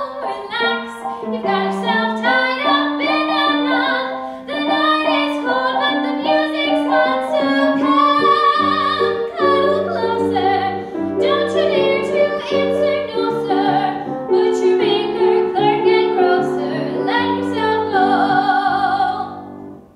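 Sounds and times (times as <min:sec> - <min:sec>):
woman singing with vibrato: 0:00.0 - 0:19.4.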